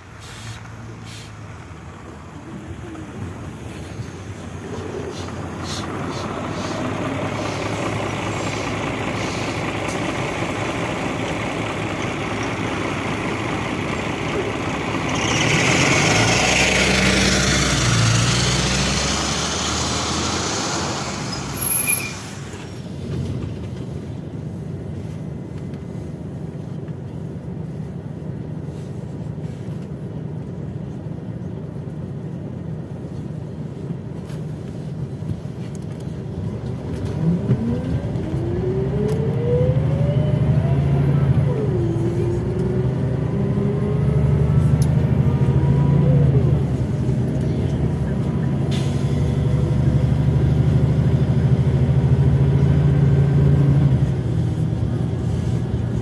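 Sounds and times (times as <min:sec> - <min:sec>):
bus engine running: 0:00.0 - 0:56.0
road noise inside bus: 0:00.0 - 0:56.0.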